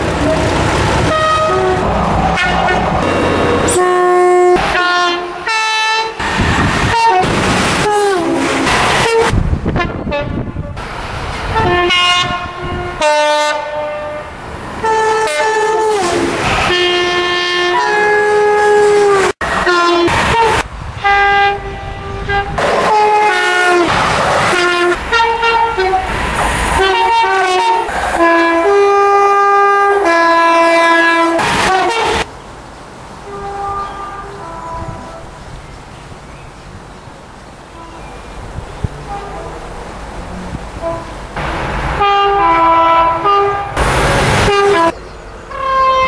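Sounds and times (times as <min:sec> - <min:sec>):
trains passing at speed: 0:00.0 - 0:46.0
two-tone train horn: 0:00.2 - 0:06.2, 0:06.9 - 0:10.8, 0:11.6 - 0:23.9, 0:24.5 - 0:26.1, 0:26.8 - 0:32.3, 0:33.2 - 0:35.4, 0:37.7 - 0:38.2, 0:39.0 - 0:39.7, 0:40.4 - 0:41.2, 0:42.0 - 0:43.8, 0:44.4 - 0:46.0.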